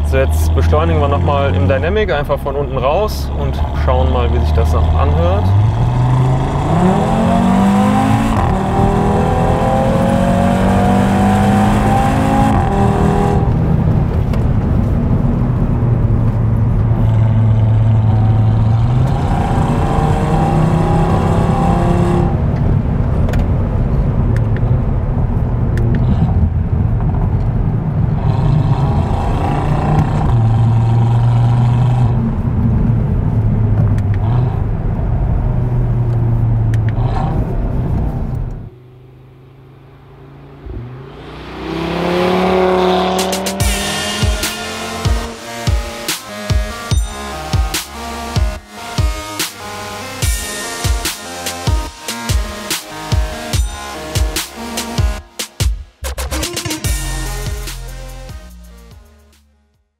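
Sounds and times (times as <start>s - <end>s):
car engine accelerating: 0.0s - 59.5s.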